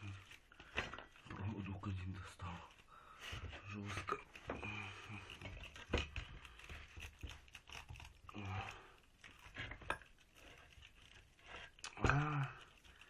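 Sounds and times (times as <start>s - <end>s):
wire scraping and crunching: 0.0s - 13.0s.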